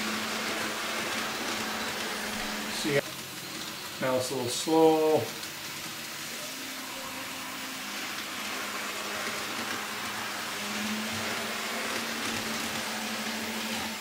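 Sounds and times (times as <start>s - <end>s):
model train motors hissing: 0.0s - 14.0s.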